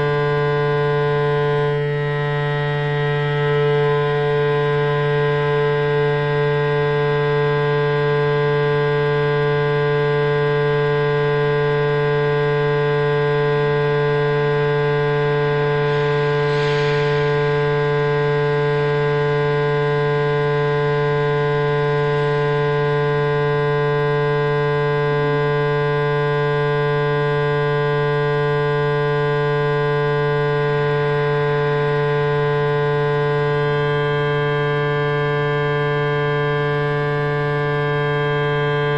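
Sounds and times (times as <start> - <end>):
drone of held tones: 0.0 - 38.9.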